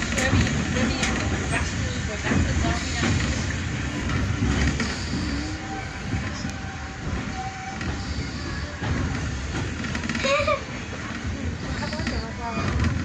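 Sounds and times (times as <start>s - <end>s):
train carriage rolling on rails: 0.0s - 13.0s.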